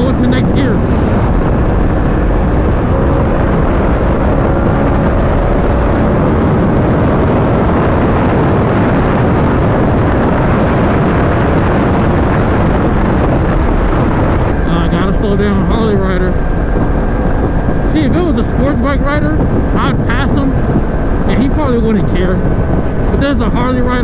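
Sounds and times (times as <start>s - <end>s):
faint motorcycle engine: 0.0s - 24.0s
wind rush on microphone: 0.0s - 24.0s.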